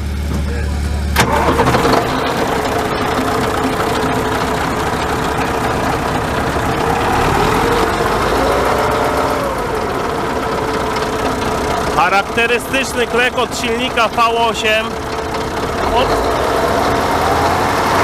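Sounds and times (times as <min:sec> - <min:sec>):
diesel engine idling with clatter: 0:00.0 - 0:18.0.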